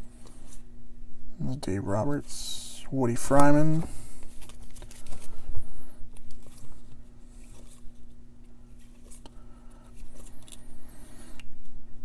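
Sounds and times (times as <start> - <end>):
plastic sleeves rustling: 2.0 - 11.8.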